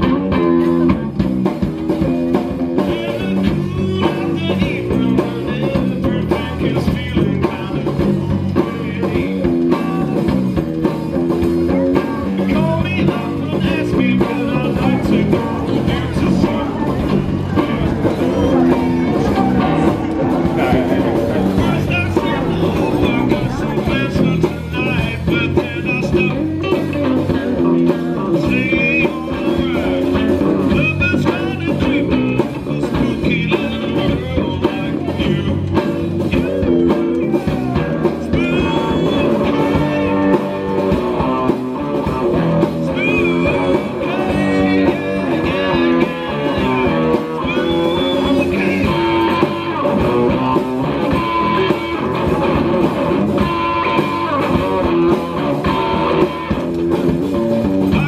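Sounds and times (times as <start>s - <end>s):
blues-rock song with guitar: 0.0s - 58.0s.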